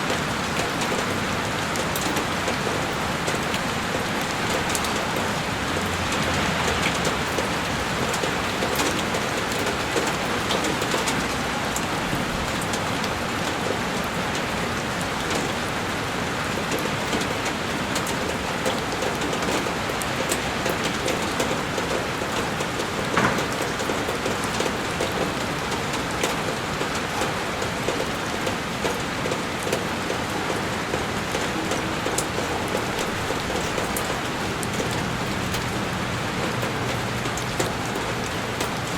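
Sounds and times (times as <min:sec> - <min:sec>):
heavy rain on a window: 0:00.0 - 0:38.9
rain drops ticking: 0:00.0 - 0:38.9.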